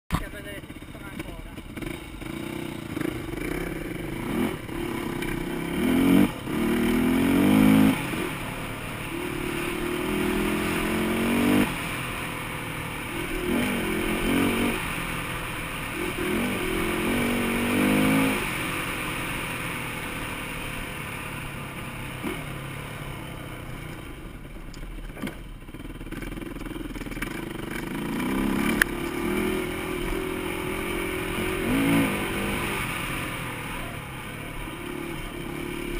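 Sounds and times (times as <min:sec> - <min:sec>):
dirt bike engine revving: 0:00.1 - 0:23.3, 0:25.8 - 0:35.9.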